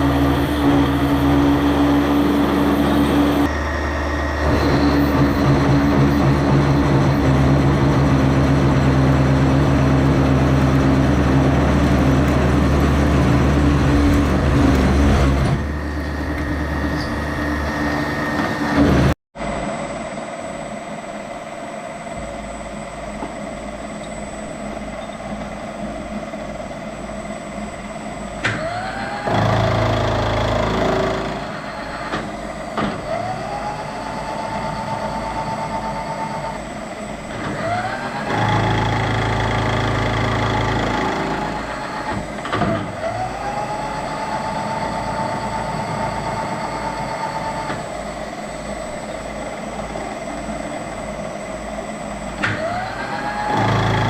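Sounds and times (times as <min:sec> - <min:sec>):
machine tool motor humming: 0:00.0 - 0:19.2, 0:22.2 - 0:54.0.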